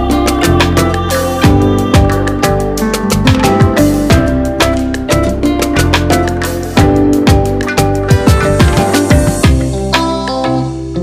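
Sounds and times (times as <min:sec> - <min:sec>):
music with steady beat: 0:00.0 - 0:11.0
plucked melody notes: 0:00.0 - 0:11.0.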